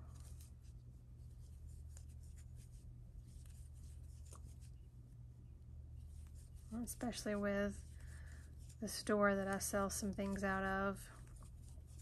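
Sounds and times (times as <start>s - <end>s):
yarn and crochet hook rustling: 0.0s - 4.9s, 5.8s - 12.0s
steady low hum: 0.0s - 12.0s.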